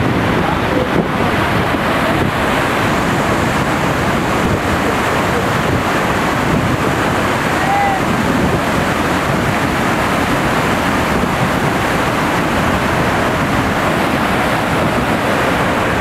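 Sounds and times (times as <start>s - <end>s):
waterfall rushing: 0.0s - 16.0s
whitewater crashing over rocks: 0.0s - 16.0s.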